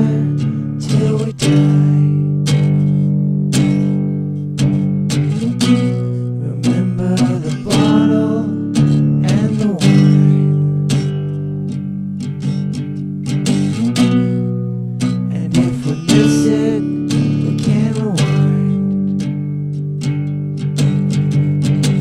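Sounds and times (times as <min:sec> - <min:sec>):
strummed guitar song with bass: 0:00.0 - 0:22.0.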